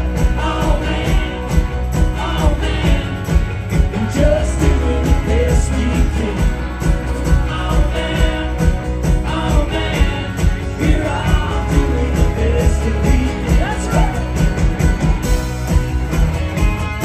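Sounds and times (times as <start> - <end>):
man singing: 0.0 - 14.3
rock band playing: 0.0 - 17.0.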